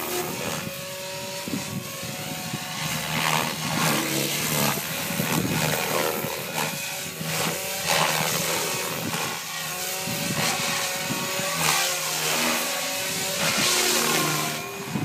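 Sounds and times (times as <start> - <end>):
helicopter rotor blades whooshing: 0.0 - 15.0
motor and gear whine: 0.0 - 15.0.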